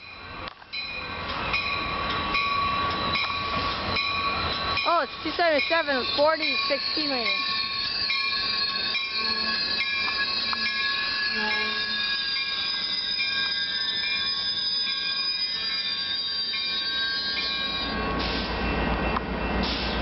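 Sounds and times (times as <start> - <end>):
locomotive rumble: 0.0 - 20.0
train wheels squealing: 0.0 - 20.0.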